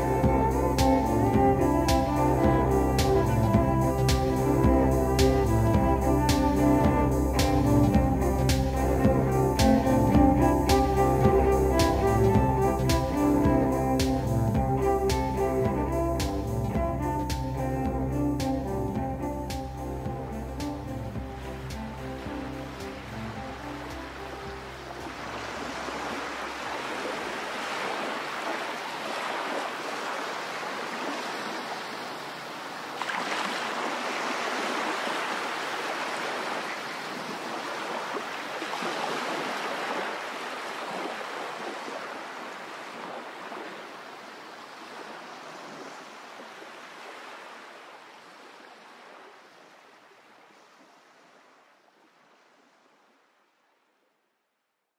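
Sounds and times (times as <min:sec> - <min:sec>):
sea surf rushing: 0:00.0 - 0:51.7.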